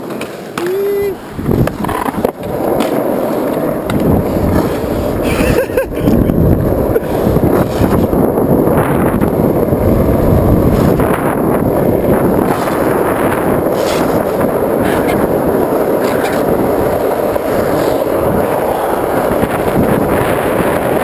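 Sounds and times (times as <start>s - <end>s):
skateboard wheels rolling on asphalt: 0.0s - 21.0s
wind noise on microphone: 0.9s - 21.0s.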